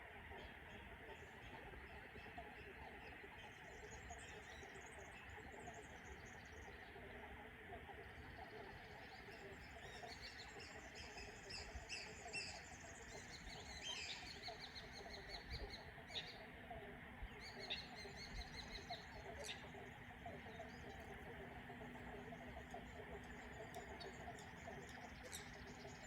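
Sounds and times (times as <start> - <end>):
small birds chirping: 0.4 - 26.0.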